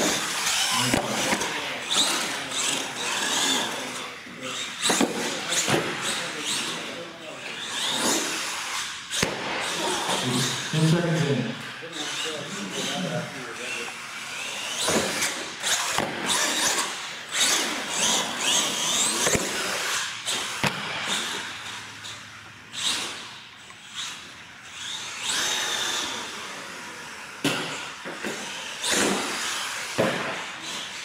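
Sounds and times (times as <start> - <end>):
toy truck motor whining: 0.0 - 11.0, 11.8 - 31.0.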